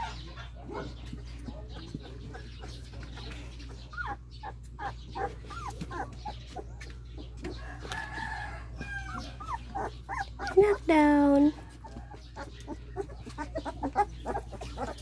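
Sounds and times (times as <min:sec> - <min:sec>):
puppies whimpering: 0:00.0 - 0:15.0.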